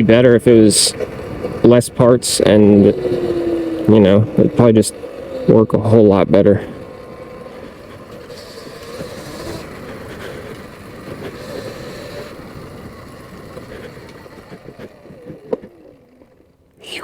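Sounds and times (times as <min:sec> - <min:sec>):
electric motor and chain whine: 0:00.0 - 0:16.8
road noise: 0:00.0 - 0:17.0.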